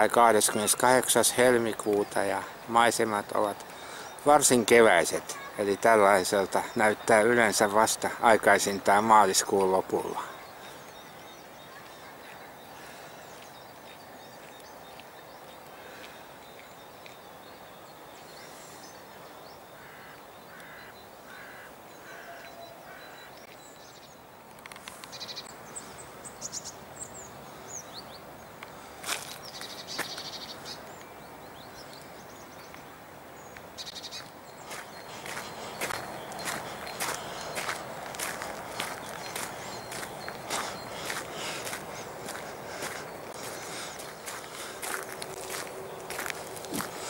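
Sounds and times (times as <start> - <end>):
birds calling: 0.0 - 47.0.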